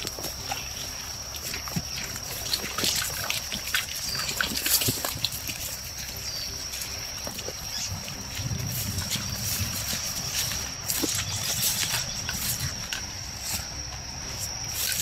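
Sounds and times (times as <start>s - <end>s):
footsteps on muddy path: 0.0s - 15.0s
grass and leaves rustling: 0.0s - 15.0s
high-pitched insect drone: 0.0s - 15.0s.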